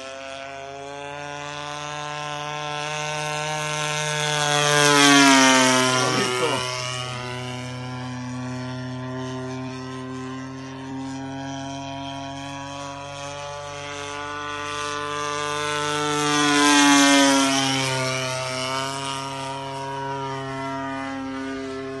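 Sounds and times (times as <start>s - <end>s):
model airplane engine flying past: 0.0s - 22.0s.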